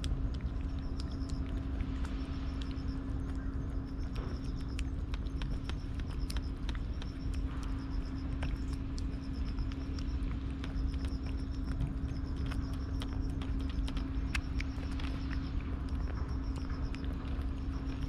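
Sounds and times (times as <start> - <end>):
cat crunching dry food: 0.0 - 18.0.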